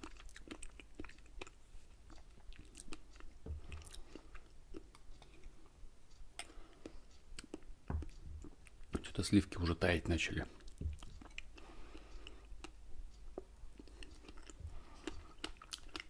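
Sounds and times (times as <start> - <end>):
wet chewing and mouth clicks: 0.0 - 5.6, 6.3 - 9.2, 10.4 - 16.0.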